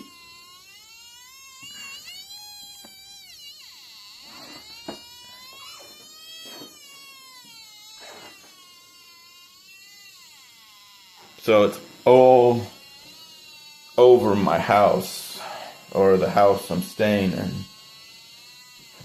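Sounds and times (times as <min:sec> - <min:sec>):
wavering electronic whining buzz: 0:00.0 - 0:19.0.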